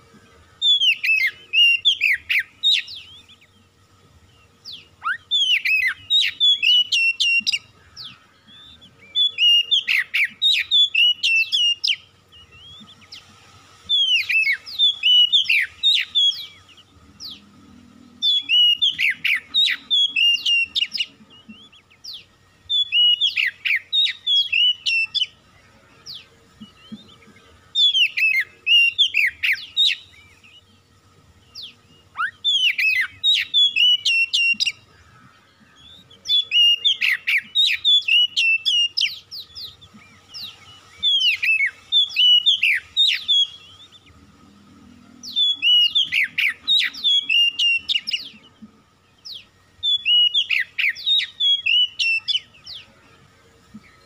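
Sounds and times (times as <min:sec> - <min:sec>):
bird singing rich whistles: 0:00.6 - 0:17.5, 0:18.1 - 0:25.4, 0:26.0 - 0:44.3, 0:45.1 - 0:53.0.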